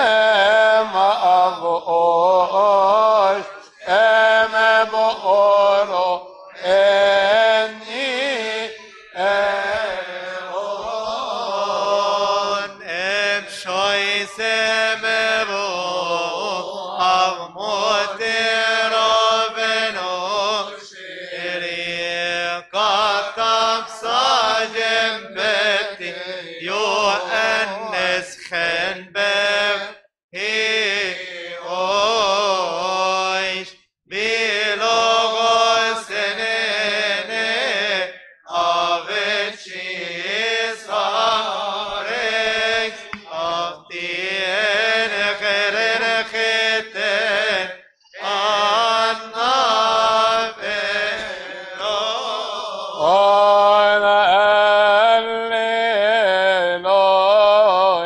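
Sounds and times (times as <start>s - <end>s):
man singing a hymn: 0.0s - 58.0s.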